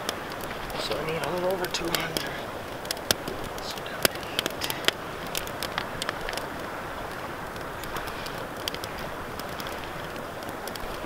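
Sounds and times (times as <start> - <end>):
campfire crackling and popping: 0.0 - 11.0
steady rushing noise: 0.0 - 11.0.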